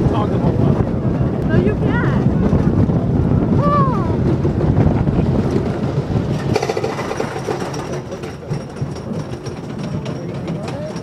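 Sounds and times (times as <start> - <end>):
roller coaster lift chain clatter: 0.0 - 3.0, 4.1 - 11.0.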